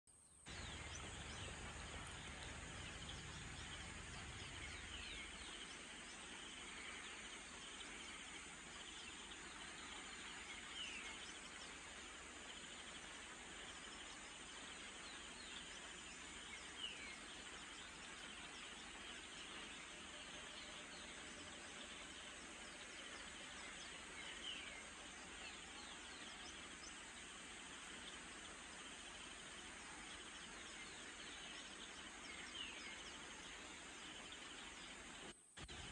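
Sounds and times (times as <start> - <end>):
faint background hiss: 0.1 - 35.9.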